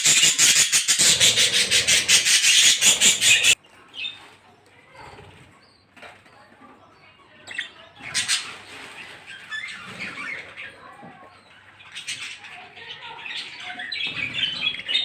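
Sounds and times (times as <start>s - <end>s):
birds chirping and squawking: 0.0s - 15.0s.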